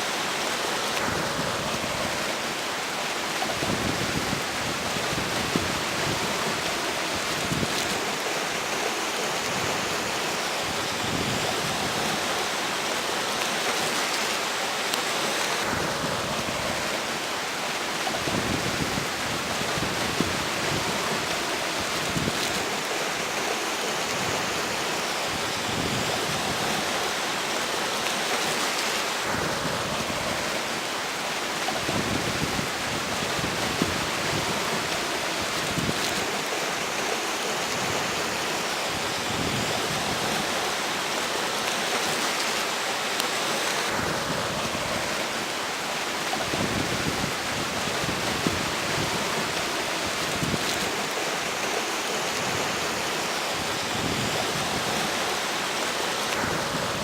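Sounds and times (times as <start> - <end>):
river rushing: 0.0 - 57.0
strong wind blowing: 3.4 - 12.6, 15.5 - 27.5, 29.1 - 31.0, 31.7 - 41.0, 43.7 - 57.0.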